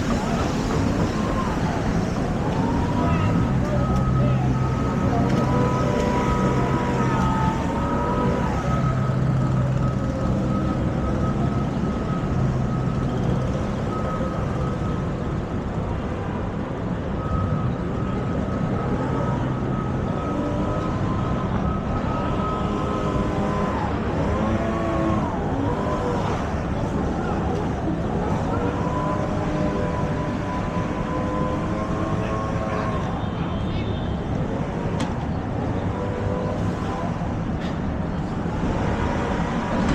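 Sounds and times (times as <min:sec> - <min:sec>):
passers-by talking: 0:00.0 - 0:39.9
traffic and engine hum: 0:00.0 - 0:39.9.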